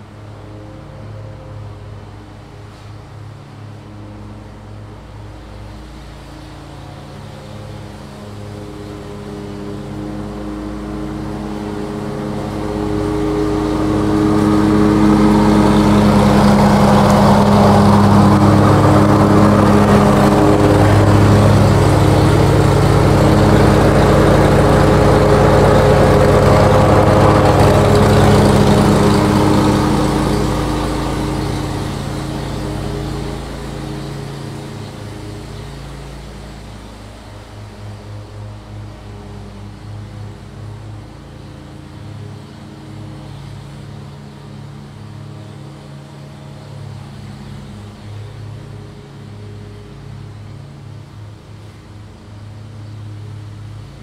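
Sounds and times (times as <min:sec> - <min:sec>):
lawn mower engine running: 0:03.4 - 0:53.2.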